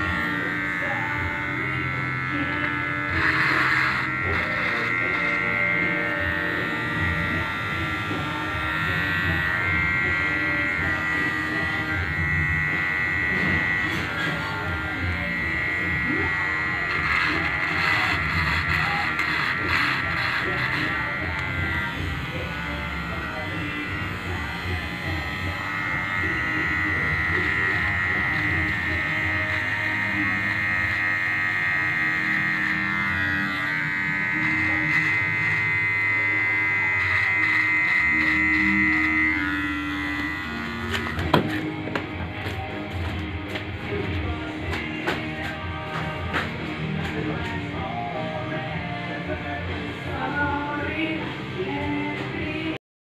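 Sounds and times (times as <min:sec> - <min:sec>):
electric hair clipper buzzing: 0:00.0 - 0:52.8.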